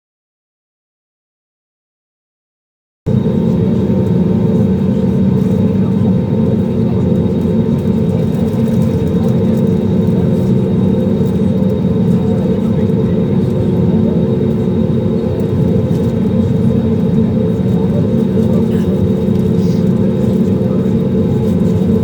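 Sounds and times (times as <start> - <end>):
aircraft cabin engine rumble: 3.1 - 22.0.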